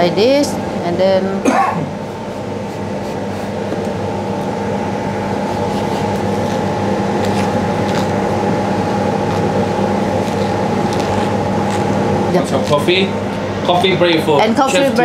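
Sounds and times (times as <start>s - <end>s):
ventilation fan drone: 0.0s - 15.0s.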